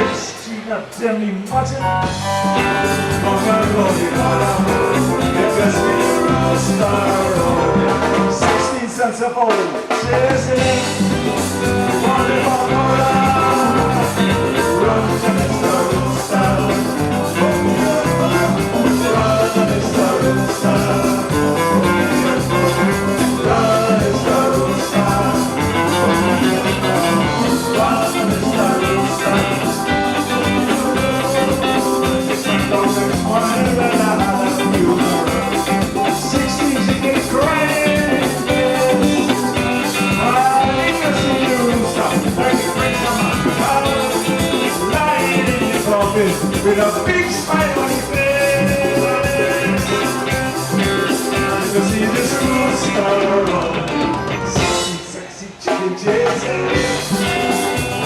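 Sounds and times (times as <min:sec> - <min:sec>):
calypso band playing: 0:00.0 - 0:58.0.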